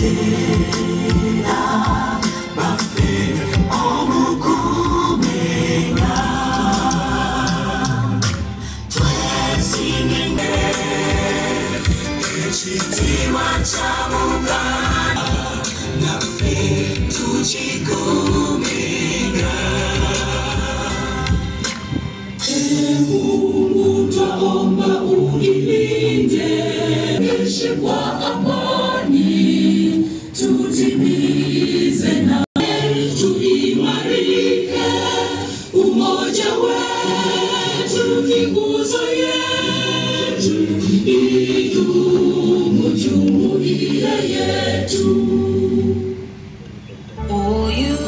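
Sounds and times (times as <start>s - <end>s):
crowd singing in unison: 0.0s - 48.0s.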